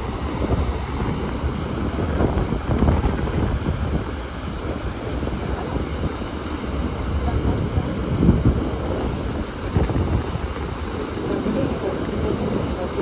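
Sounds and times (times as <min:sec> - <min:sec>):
boat wake rushing: 0:00.0 - 0:13.0
wind buffeting microphone: 0:00.0 - 0:13.0.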